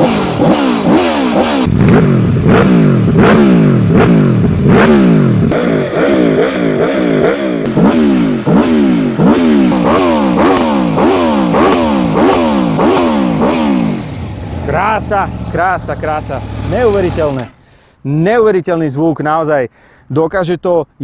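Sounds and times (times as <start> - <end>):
motorcycle engine revving: 0.0 - 17.5.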